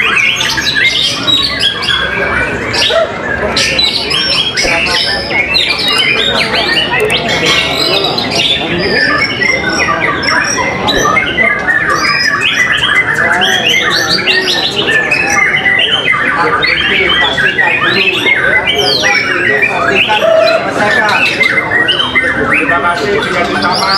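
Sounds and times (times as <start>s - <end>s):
bird singing chirps and whistles: 0.0s - 23.9s
chorus of birds singing: 0.0s - 23.9s.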